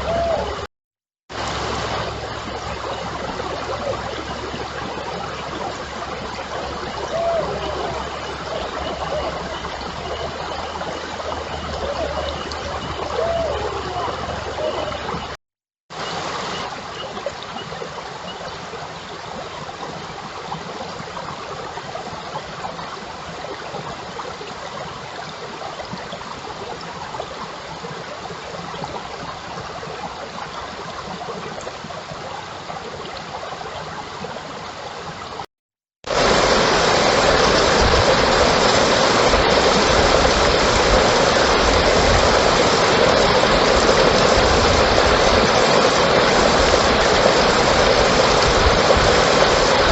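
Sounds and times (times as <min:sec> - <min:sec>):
running water rushing: 0:00.0 - 0:00.7, 0:01.3 - 0:49.9.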